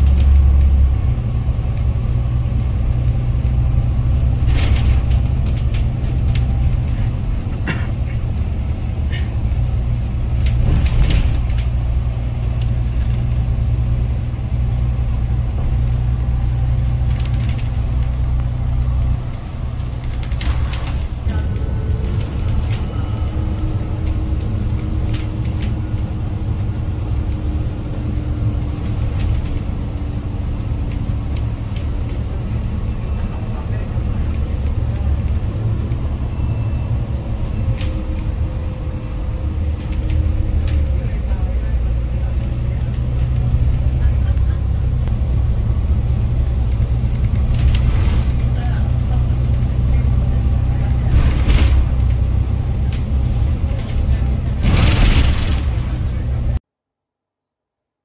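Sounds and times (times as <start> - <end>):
bus engine and road rumble: 0.0 - 56.7.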